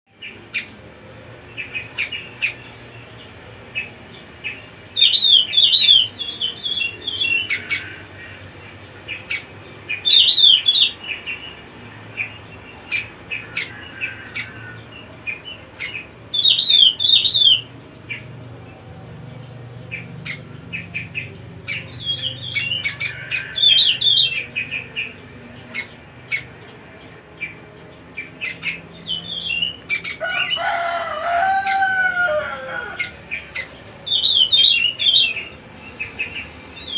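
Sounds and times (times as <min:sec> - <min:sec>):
bird chattering warbling song: 0:01.5 - 0:36.9.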